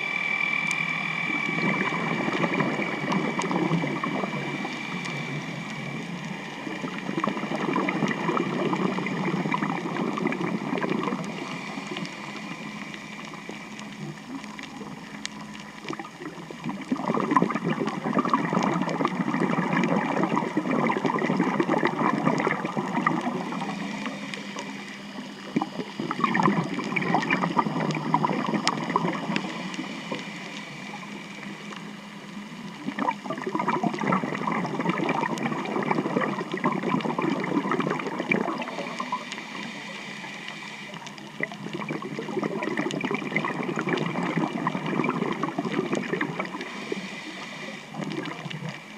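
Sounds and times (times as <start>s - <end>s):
boat engines and propellers underwater: 0.0s - 48.9s
faint steady hum: 0.0s - 48.9s
gurgling water: 0.0s - 48.9s.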